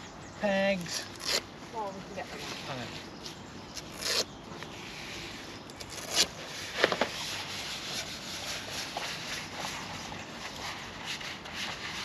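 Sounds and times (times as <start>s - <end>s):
camping gear scraping and rustling: 0.6s - 12.0s.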